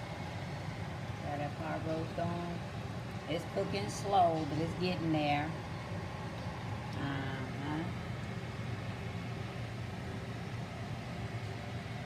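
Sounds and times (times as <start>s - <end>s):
kitchen fan humming: 0.0s - 12.0s.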